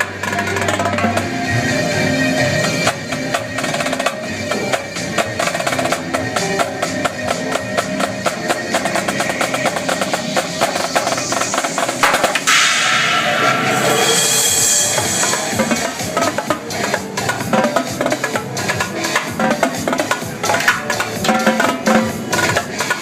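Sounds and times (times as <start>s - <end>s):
dance music: 0.0s - 23.0s
drumming with sticks: 0.0s - 23.0s.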